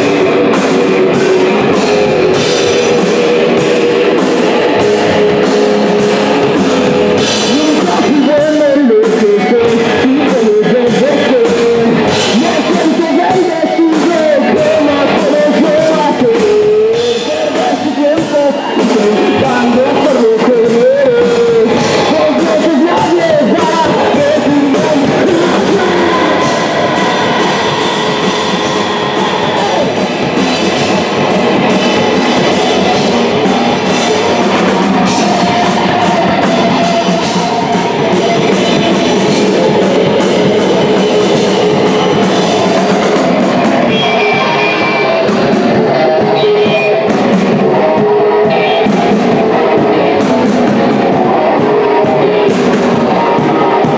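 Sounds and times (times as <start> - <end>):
person singing: 0.0 - 53.9
punk rock band playing: 0.0 - 53.9.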